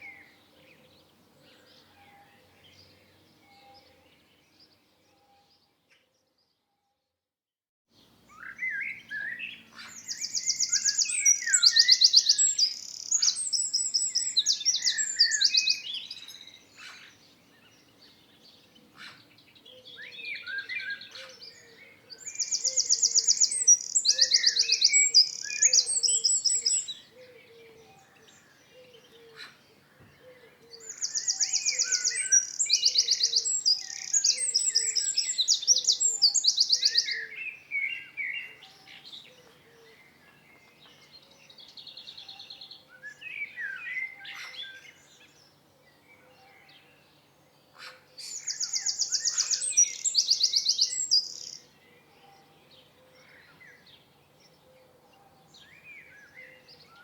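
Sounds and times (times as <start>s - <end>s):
songbird singing buzzy trills: 8.0s - 54.6s.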